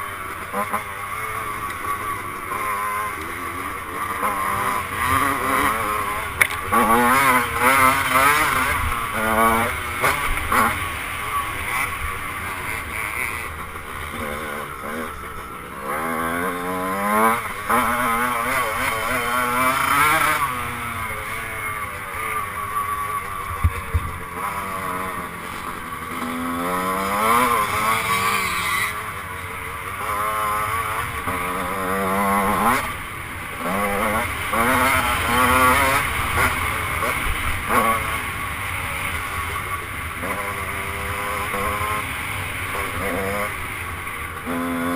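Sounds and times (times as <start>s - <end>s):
two-stroke motorcycle engine revving: 0.0s - 44.9s.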